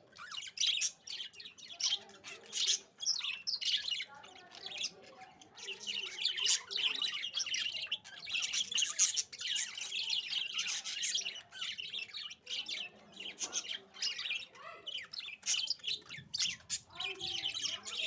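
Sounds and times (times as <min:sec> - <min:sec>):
budgerigars chirping and chattering: 0:00.0 - 0:18.0.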